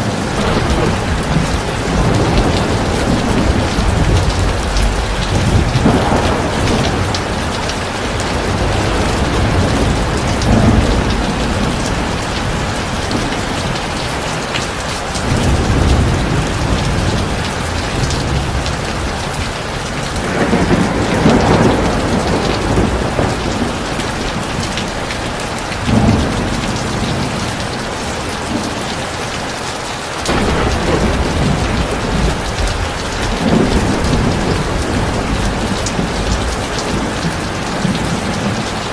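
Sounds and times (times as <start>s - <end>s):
thunder rumbling: 0.0s - 29.4s, 30.2s - 38.9s
heavy rain: 0.0s - 38.9s.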